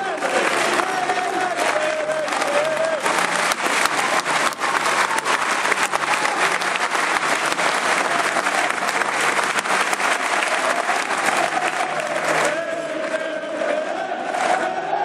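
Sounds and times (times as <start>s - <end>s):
sharp claps close by: 0.0s - 12.6s
crowd applauding: 0.0s - 15.0s.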